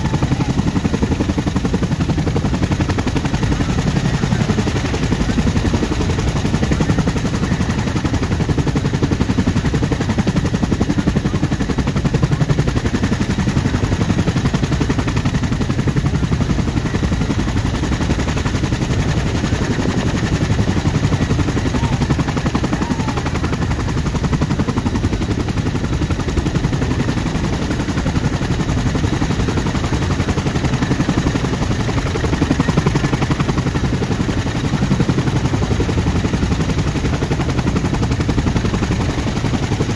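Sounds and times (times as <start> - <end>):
helicopter rotor blades chopping: 0.0 - 39.9.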